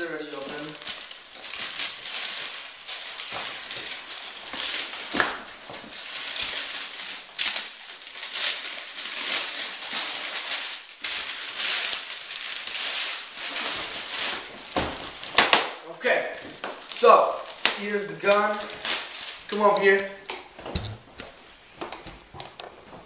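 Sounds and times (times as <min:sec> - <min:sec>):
packing material rustling: 0:00.0 - 0:22.4.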